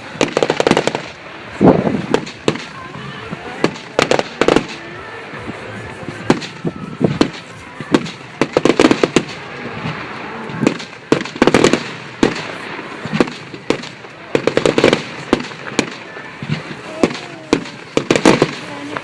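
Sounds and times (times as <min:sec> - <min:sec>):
crackling firework bangs: 0:00.0 - 0:19.0
firework shells bursting: 0:00.1 - 0:19.0.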